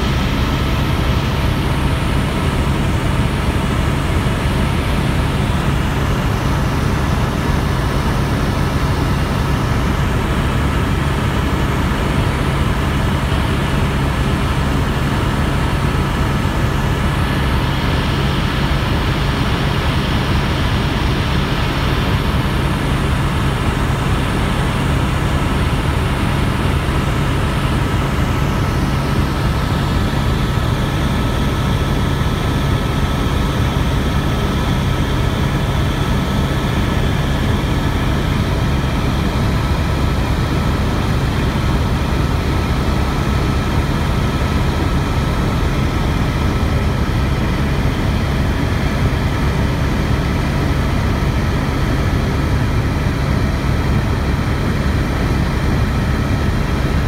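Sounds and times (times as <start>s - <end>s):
helicopter rotors and engine drone: 0.0s - 57.0s.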